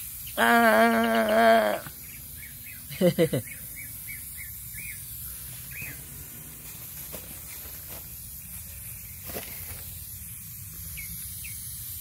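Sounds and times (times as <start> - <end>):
spray paint can hissing: 0.0 - 12.0.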